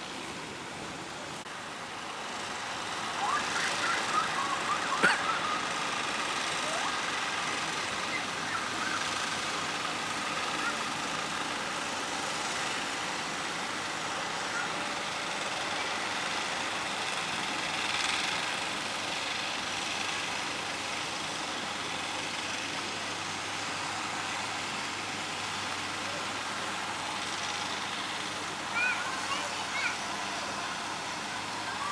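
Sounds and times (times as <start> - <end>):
faint low engine hum: 0.0 - 31.9.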